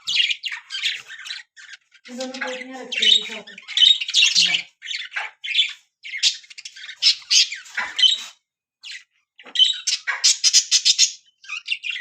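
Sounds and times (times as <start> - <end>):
baby budgerigars squawking: 0.0 - 12.0.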